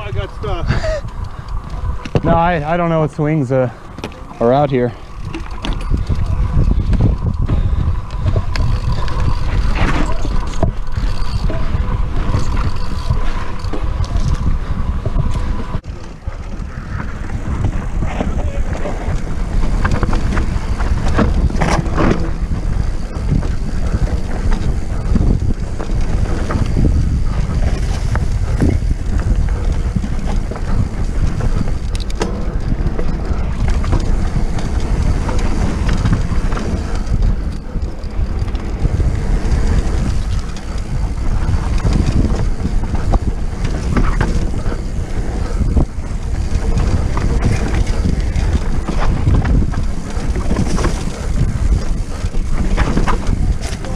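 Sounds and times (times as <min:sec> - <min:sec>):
bike rattling and knocking: 0:00.0 - 0:53.9
wind rumbling on microphone: 0:00.0 - 0:53.9.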